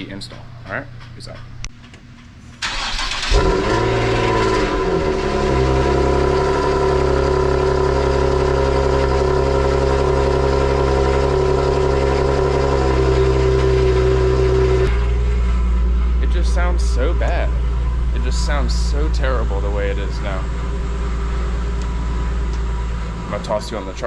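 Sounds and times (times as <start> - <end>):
car engine revving and idling: 2.6 - 24.0.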